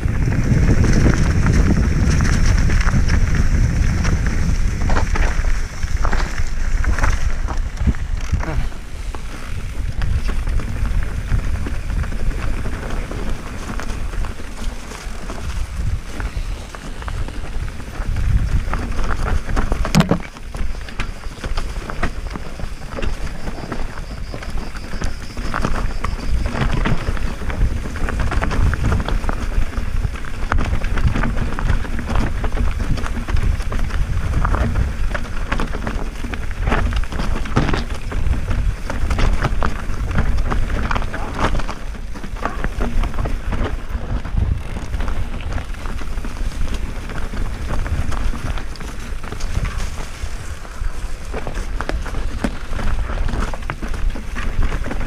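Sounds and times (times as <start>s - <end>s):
bike rattling over bumps: 0.0s - 55.0s
tyres crunching over stones: 0.0s - 55.0s
wind rumbling on microphone: 0.0s - 55.0s.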